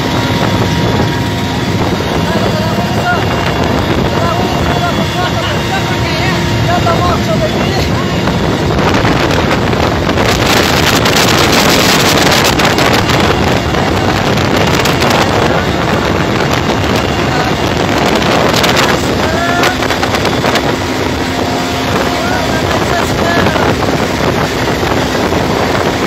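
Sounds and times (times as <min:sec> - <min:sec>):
helicopter engine and rotor roar: 0:00.0 - 0:26.0.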